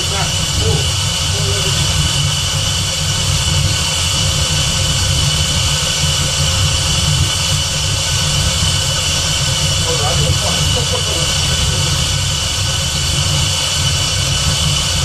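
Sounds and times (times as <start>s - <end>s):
car engine idling: 0.0s - 15.0s
steady rushing whir: 0.0s - 15.0s.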